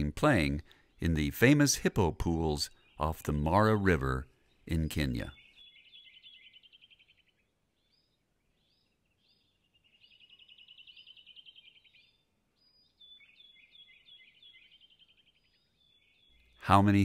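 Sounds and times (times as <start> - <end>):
faint birdsong trills and whistles: 0.3 - 1.0, 2.6 - 16.8.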